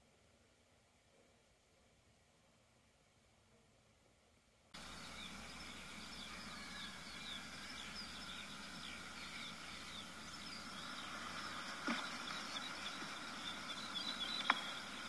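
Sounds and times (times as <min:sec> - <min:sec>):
faint steam hiss: 0:00.0 - 0:15.0.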